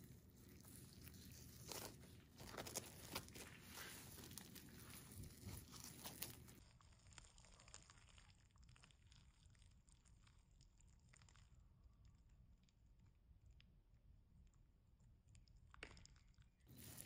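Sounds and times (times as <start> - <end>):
fried bread crust crunching: 0.0 - 12.5, 15.7 - 17.0.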